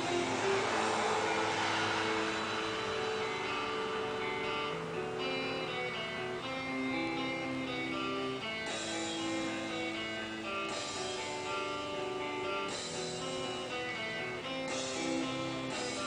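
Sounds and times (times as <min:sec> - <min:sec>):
cymbal wash: 0:00.0 - 0:16.0
guitar-led rock music on radio: 0:00.0 - 0:16.0.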